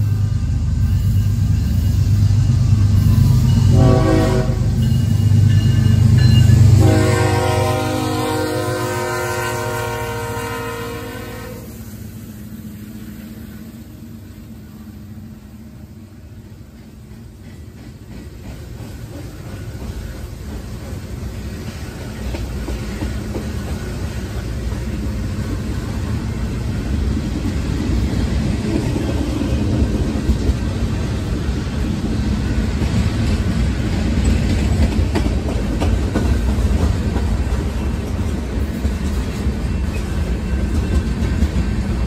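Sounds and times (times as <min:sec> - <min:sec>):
clacks of train cars: 0:00.0 - 0:11.9, 0:16.2 - 0:42.0
train wheels rumbling on rail: 0:00.0 - 0:42.0.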